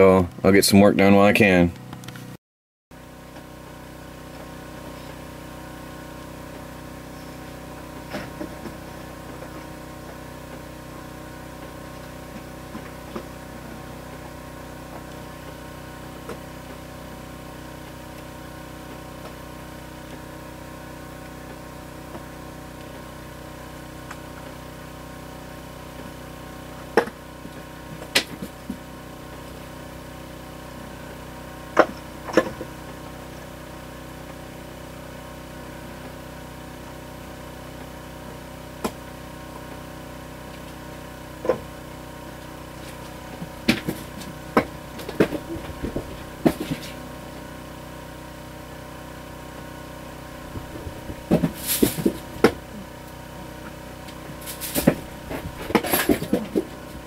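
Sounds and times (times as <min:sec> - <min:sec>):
small engine running: 0:03.0 - 0:57.0.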